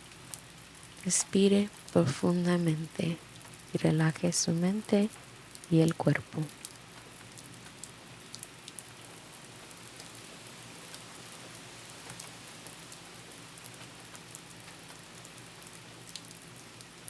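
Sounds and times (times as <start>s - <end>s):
soft steady rain: 0.0s - 17.0s.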